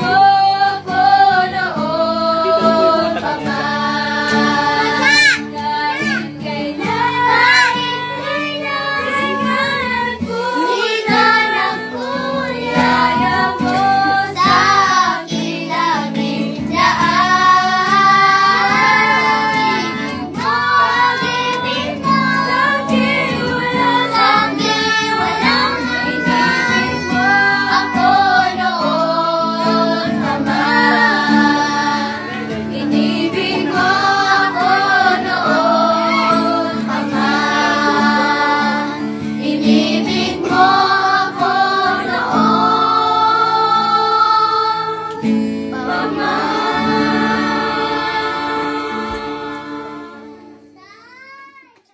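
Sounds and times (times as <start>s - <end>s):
children singing a worship song: 0.0s - 51.4s
acoustic guitar: 0.0s - 51.8s.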